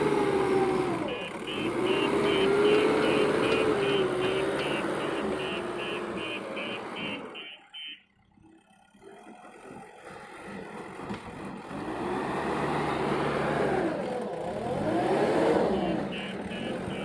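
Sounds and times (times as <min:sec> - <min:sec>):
diesel engine running and revving: 0:00.0 - 0:17.0.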